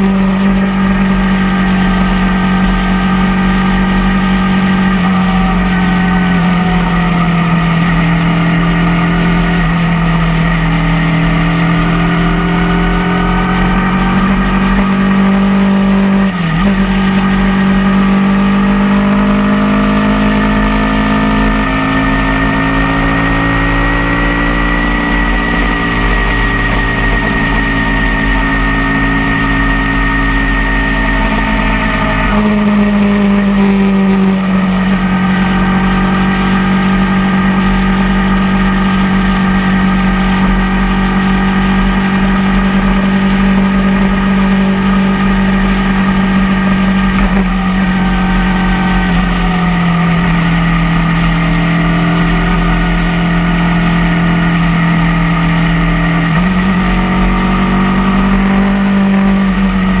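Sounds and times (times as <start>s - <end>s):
motorcycle engine cruising: 0.0s - 60.0s.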